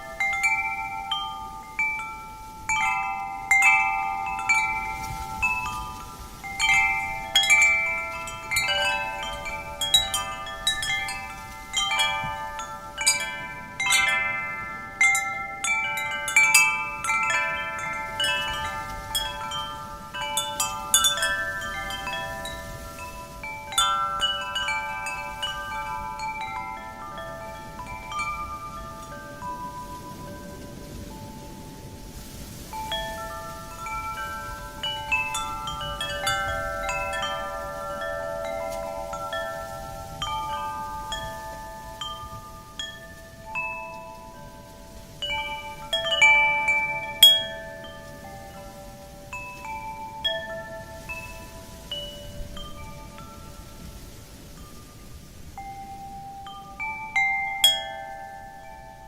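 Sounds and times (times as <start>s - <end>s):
faint wind hiss: 0.0s - 59.0s
wind chimes ringing: 0.0s - 59.0s.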